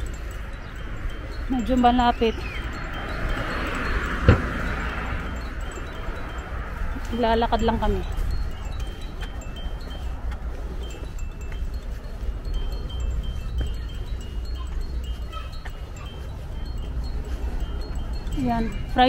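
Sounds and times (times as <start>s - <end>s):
high chime-like tinkling: 0.0s - 19.0s
wind rumbling on microphone: 0.0s - 19.0s.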